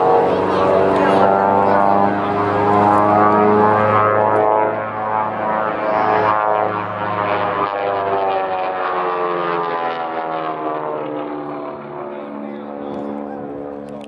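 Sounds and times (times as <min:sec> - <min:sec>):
propeller plane engines droning: 0:00.0 - 0:14.0.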